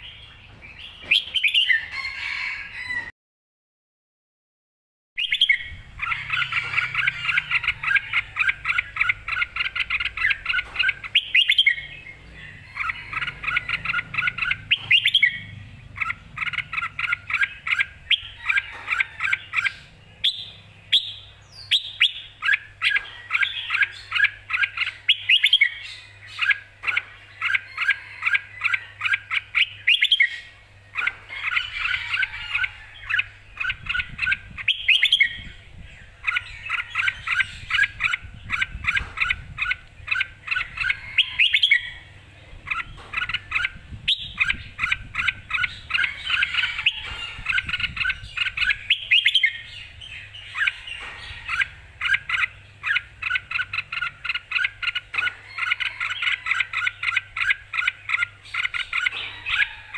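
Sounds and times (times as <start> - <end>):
bird singing chirping notes: 0.0 - 1.9, 5.2 - 59.9.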